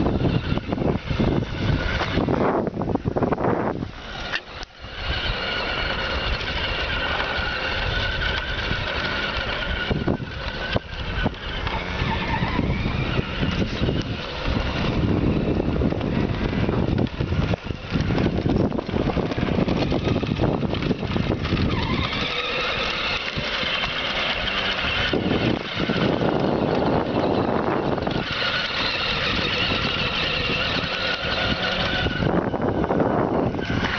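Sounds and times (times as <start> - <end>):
quad engine revving: 0.0 - 33.9.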